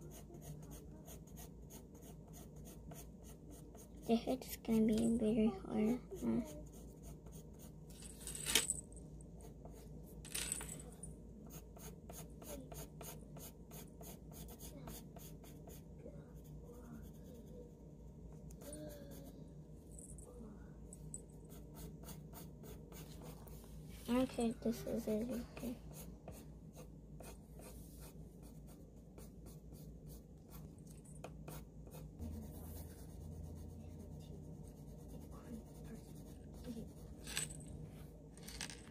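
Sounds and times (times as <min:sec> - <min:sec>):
pencil scratching on paper: 0:00.0 - 0:08.0, 0:09.3 - 0:10.2, 0:11.4 - 0:19.3, 0:21.4 - 0:37.2.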